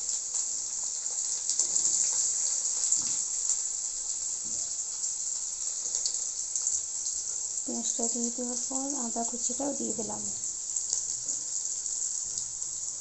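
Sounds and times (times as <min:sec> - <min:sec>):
onion sizzling in hot oil: 0:00.0 - 0:13.0.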